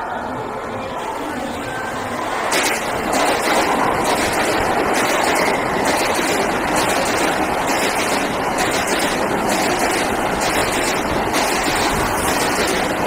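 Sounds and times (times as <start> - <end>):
train wheels rushing on rail: 1.0 - 13.0.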